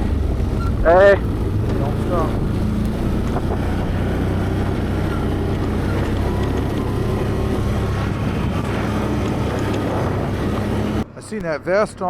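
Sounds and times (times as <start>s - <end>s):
atv engine running: 0.0s - 11.1s.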